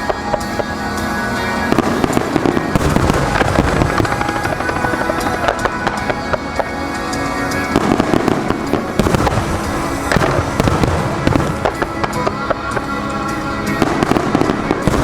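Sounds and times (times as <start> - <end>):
fireworks bursting and crackling: 0.0 - 15.0
music over loudspeakers: 0.0 - 15.0.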